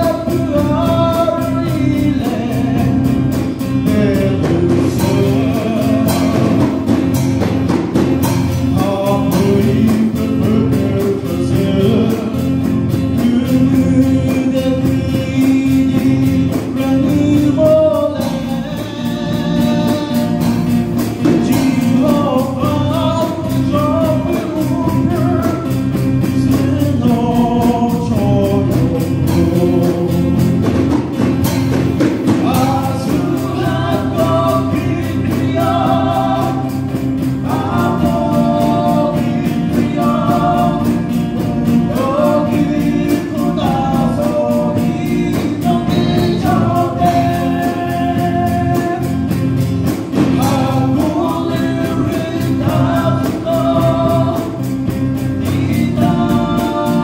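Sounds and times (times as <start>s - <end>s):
man singing: 0.0s - 7.2s, 8.3s - 57.0s
acoustic guitar: 0.0s - 57.0s
drums with steady beat: 0.0s - 57.0s
electric bass: 0.0s - 57.0s.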